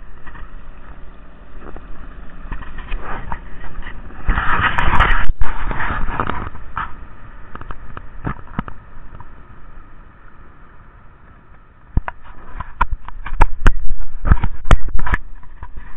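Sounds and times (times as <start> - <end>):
water rushing alongside boat: 0.0 - 15.9.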